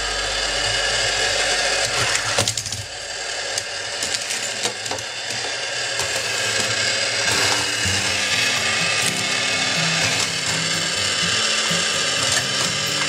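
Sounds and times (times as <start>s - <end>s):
plastic gears clicking and whirring: 1.8s - 13.0s.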